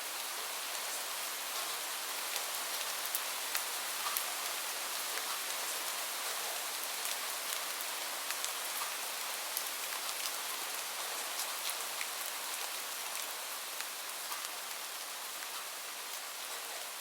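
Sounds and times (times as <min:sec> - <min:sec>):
steady rain hiss: 0:00.0 - 0:17.0
raindrops ticking nearby: 0:01.5 - 0:16.6.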